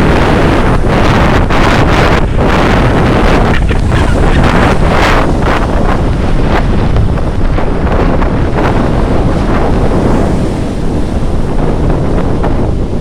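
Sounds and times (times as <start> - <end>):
storm waves crashing: 0.0 - 13.0
wind buffeting microphone: 0.0 - 13.0.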